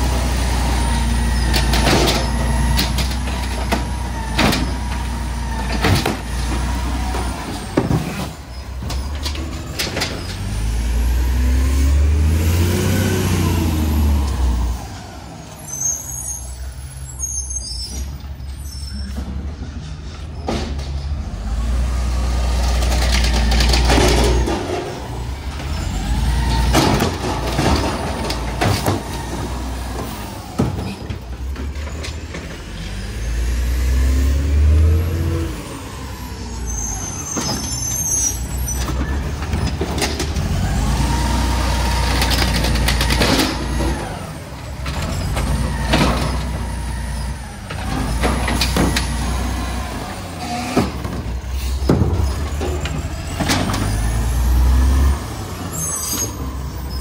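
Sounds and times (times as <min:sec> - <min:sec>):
truck engine revving: 0:00.0 - 0:16.0, 0:20.9 - 0:57.0.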